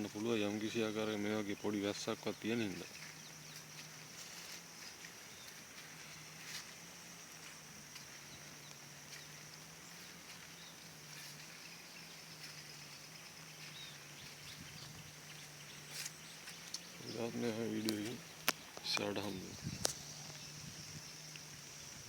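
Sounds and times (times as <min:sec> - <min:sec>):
faint low hum: 0:00.0 - 0:22.0
insects chirring: 0:00.0 - 0:22.0
faint ticks: 0:02.1 - 0:22.0.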